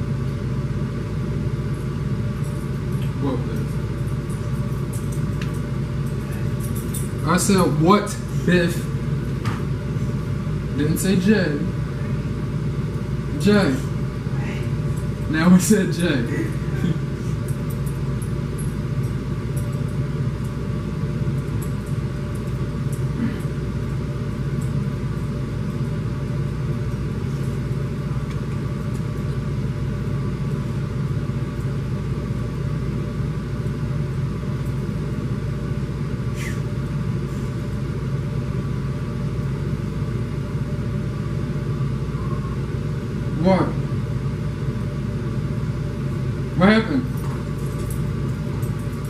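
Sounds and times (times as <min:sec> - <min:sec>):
constant hum: 0:00.0 - 0:49.0.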